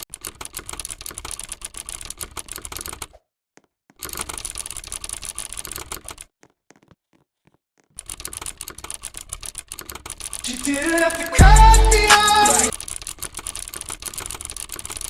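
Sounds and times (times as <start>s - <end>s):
fast typing on keyboard: 0.0s - 3.2s, 3.9s - 6.4s, 8.0s - 15.0s.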